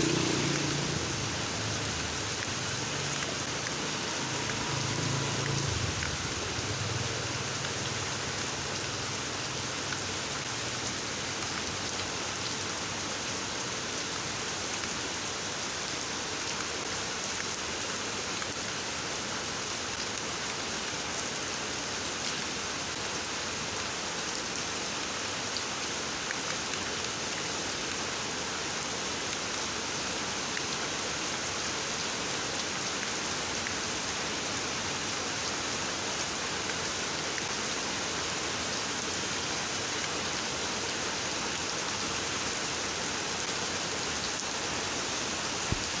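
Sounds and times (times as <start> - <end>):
steady hiss like rain: 0.0 - 46.0.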